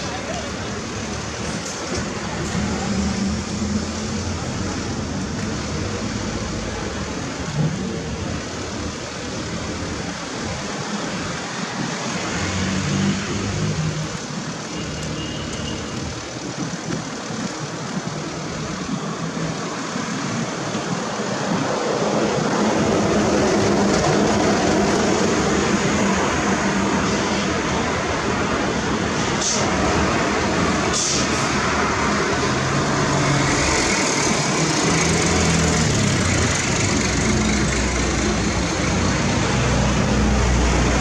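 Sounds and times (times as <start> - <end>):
road traffic passing: 0.0 - 41.0.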